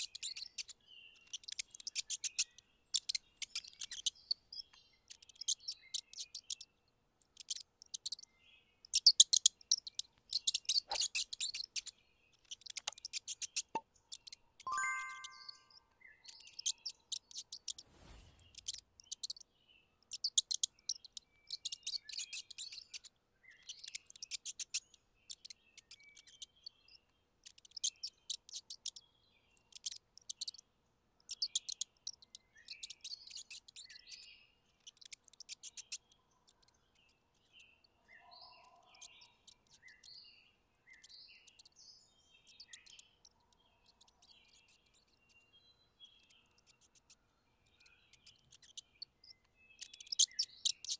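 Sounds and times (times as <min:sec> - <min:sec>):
mice squeaking: 0:00.0 - 0:29.0, 0:29.6 - 0:30.6, 0:31.2 - 0:41.8, 0:42.4 - 0:50.9.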